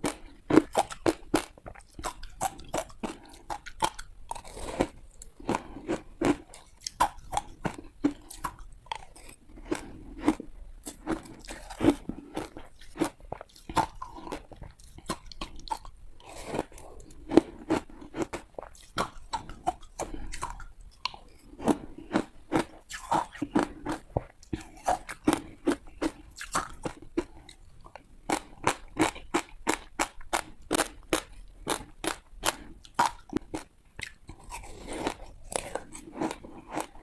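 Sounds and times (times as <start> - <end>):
ice being chewed: 0.0 - 37.0.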